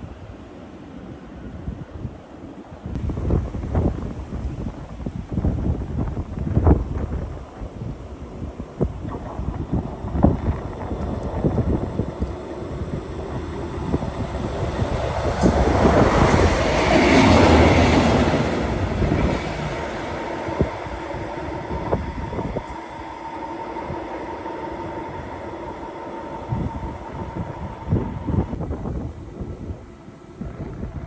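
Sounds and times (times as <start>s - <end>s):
train passing: 2.2s - 31.0s.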